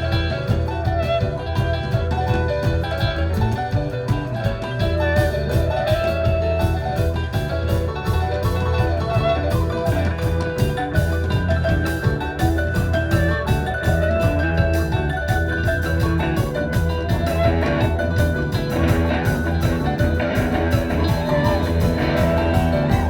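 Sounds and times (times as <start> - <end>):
bass line: 0.0 - 23.0
electric guitar: 0.0 - 23.0.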